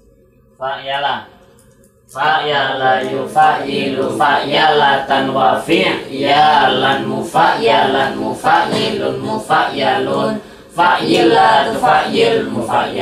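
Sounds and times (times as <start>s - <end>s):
young men chanting in unison: 2.2s - 13.0s.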